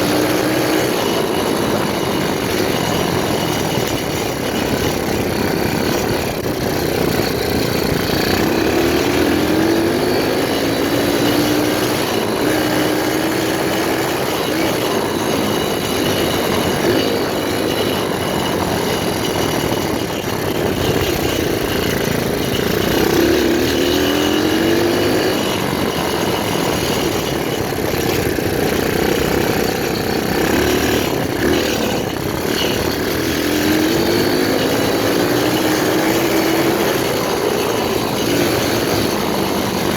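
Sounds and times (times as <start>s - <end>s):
motorbike engine accelerating: 0.0s - 39.9s
steady rushing noise: 0.0s - 39.9s.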